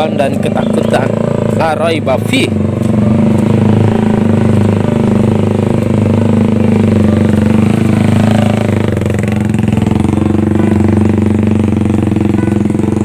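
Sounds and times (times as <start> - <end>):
motorbike passing: 0.0 - 13.0
small motorcycle engine running: 0.0 - 13.0.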